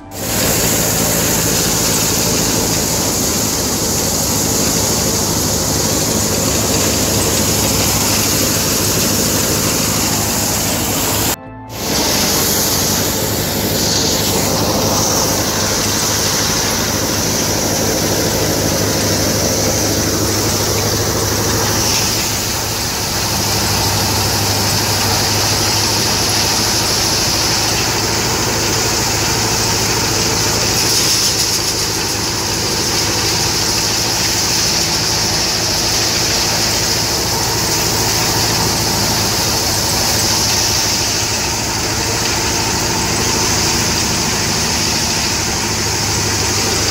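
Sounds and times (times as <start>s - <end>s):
engine humming: 0.0s - 46.9s
thresher high hiss: 0.0s - 46.9s.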